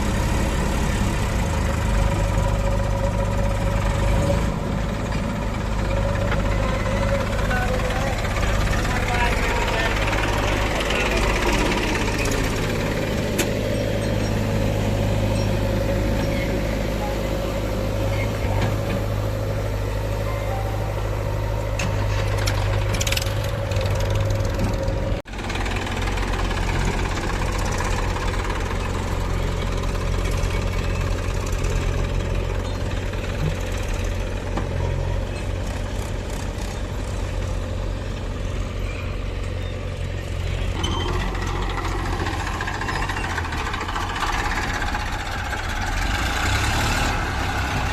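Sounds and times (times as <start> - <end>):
heavy diesel engines running: 0.0 - 47.9.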